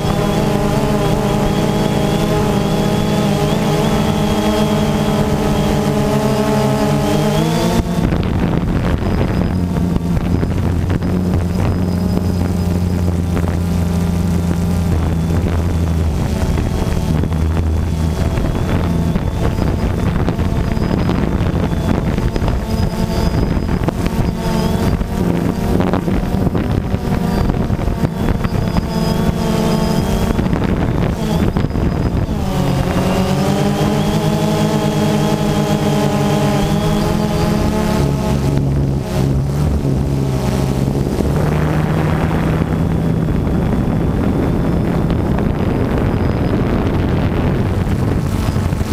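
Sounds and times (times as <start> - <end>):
quadcopter propellers buzzing: 0.0 - 48.9.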